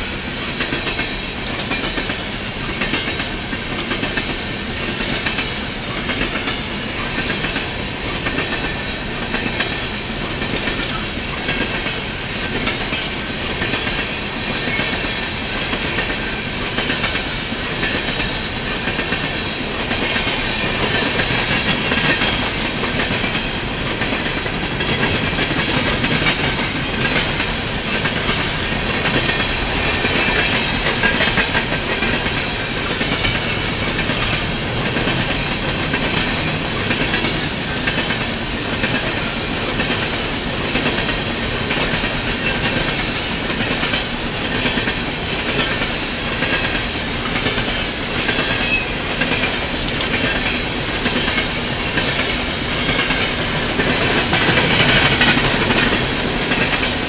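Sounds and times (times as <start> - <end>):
freight train rumble: 0.0 - 57.0
wheels clicking over rail joints: 9.3 - 57.0.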